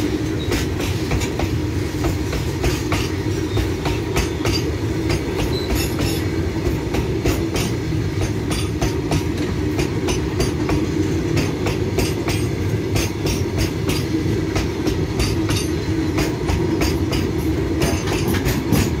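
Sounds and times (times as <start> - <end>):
freight wagons rolling on rails: 0.0 - 19.0
wheels clicking on rail joints: 0.0 - 19.0.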